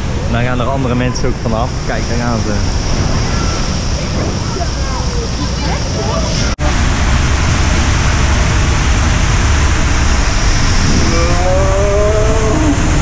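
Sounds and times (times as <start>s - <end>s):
water and air rushing in tube: 1.3s - 13.0s.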